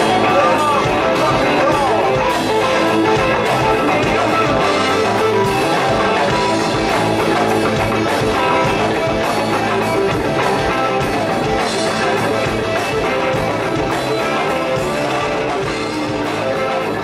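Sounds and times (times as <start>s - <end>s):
drum kit beat: 0.0s - 17.0s
electric bass: 0.0s - 17.0s
electric guitar: 0.0s - 17.0s.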